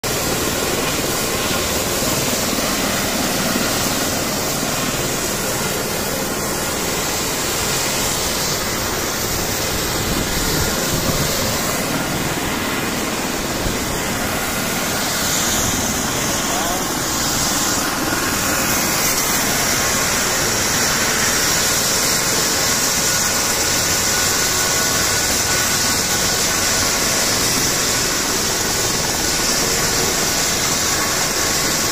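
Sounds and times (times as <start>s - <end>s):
helicopter turbine and rotor noise: 0.0s - 31.9s.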